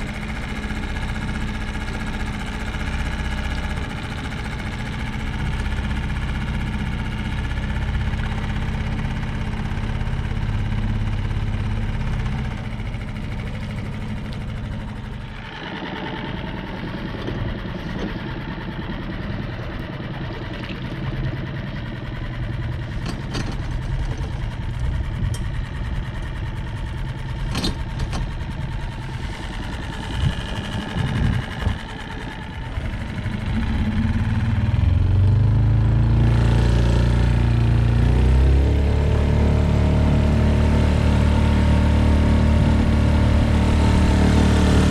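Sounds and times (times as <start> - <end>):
motor engine running: 0.0 - 44.9.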